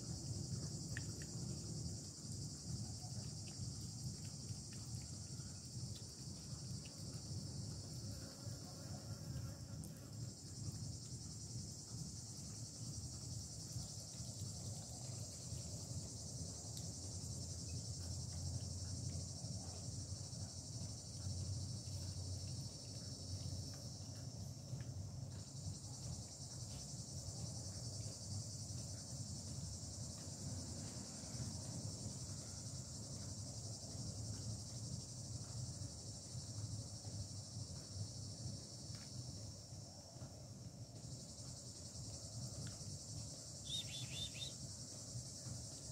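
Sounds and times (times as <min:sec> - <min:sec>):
insect chorus trilling: 0:00.0 - 0:40.2, 0:41.0 - 0:45.9.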